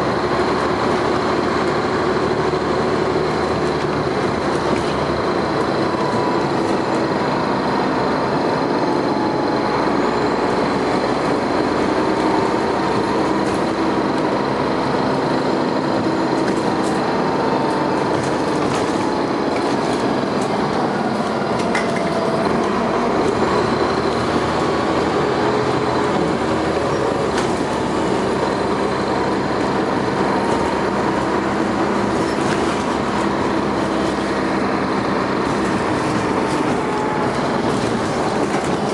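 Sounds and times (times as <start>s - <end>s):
bus engine running: 0.0s - 38.9s
road rumble: 0.0s - 38.9s.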